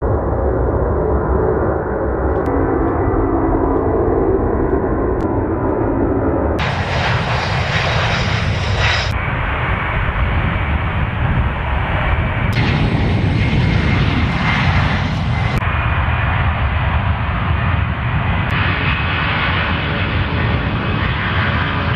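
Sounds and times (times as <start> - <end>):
aircraft engines running: 0.0 - 21.9.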